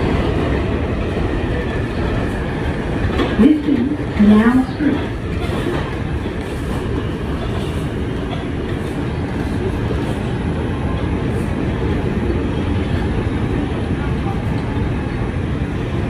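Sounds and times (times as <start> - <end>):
subway train rumbling on rails: 0.0 - 16.0.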